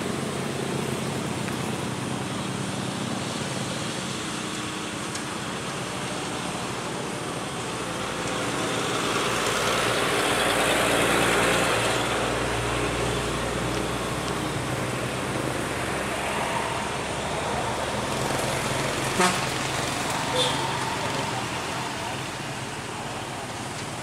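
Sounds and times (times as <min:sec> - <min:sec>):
traffic engine drone: 0:00.0 - 0:24.0.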